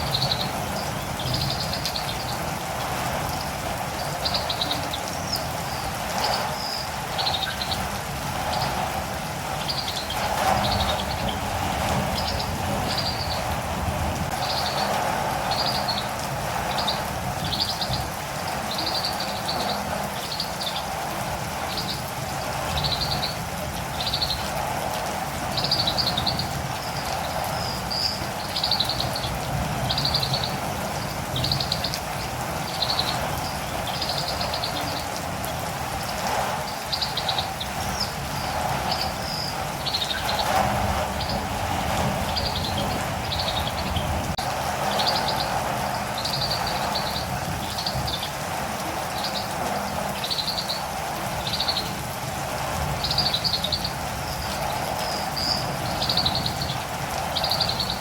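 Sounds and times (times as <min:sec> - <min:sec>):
bird trilled calls: 0:00.0 - 0:02.5, 0:03.3 - 0:08.8, 0:09.5 - 0:13.6, 0:14.4 - 0:21.0, 0:22.7 - 0:24.5, 0:25.5 - 0:44.2, 0:44.9 - 0:48.4, 0:49.1 - 0:52.0, 0:53.0 - 0:58.0
steady rain: 0:00.0 - 0:58.0.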